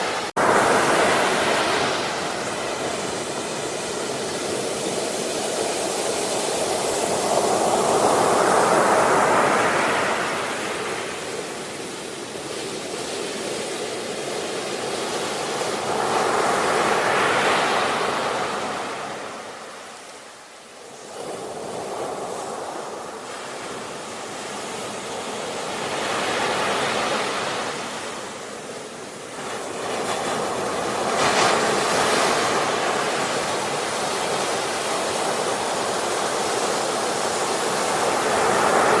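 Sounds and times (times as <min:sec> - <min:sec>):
ocean waves breaking on shore: 0:00.0 - 0:39.0.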